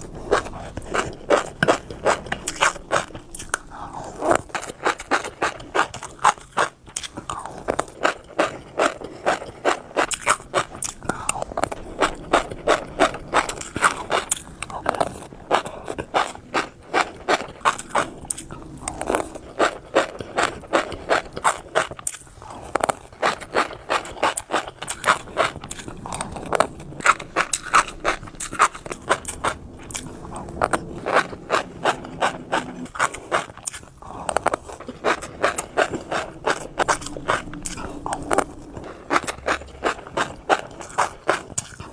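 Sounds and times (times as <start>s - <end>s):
wet mouth sounds: 0.0s - 41.9s.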